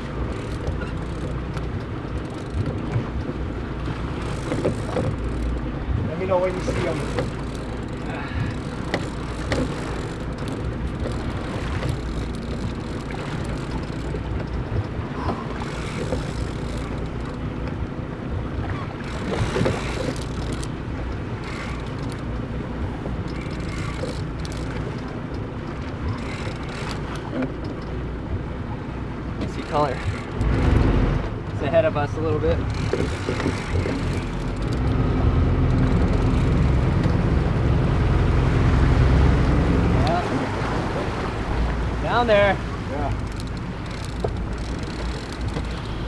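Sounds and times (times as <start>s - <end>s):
boat engine rumbling: 0.0s - 46.0s
water around hull: 0.0s - 46.0s.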